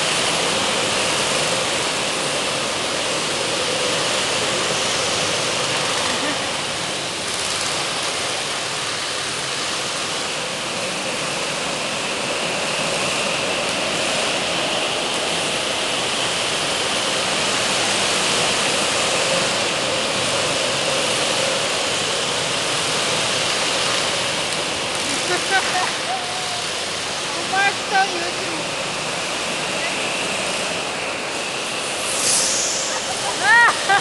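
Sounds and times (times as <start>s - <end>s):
faint engine whine: 0.0s - 34.0s
go-kart engines droning: 0.0s - 34.0s.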